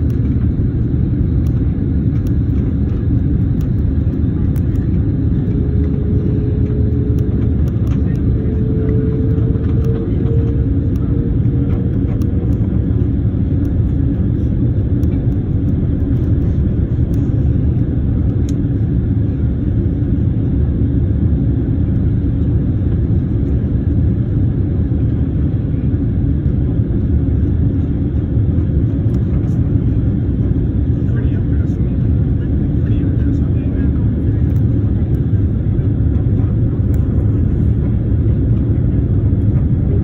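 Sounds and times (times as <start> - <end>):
faint steady whine: 0.0 - 40.0
jet engines rumbling: 0.0 - 40.0.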